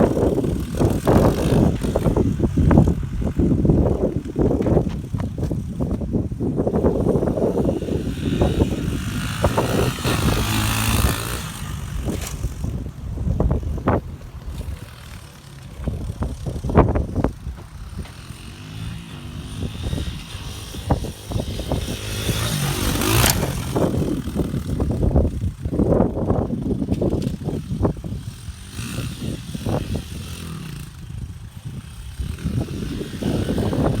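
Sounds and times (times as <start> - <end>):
pit bike engine running: 0.0 - 34.0.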